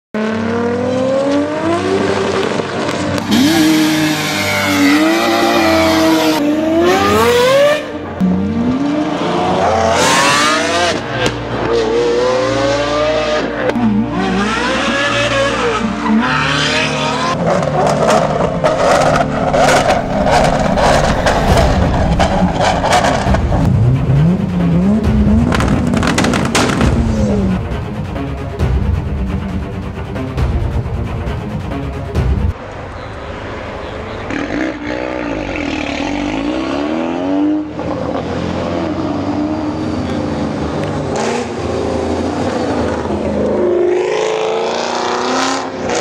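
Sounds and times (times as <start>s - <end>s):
car engines revving and accelerating: 0.2s - 30.4s, 31.4s - 46.0s.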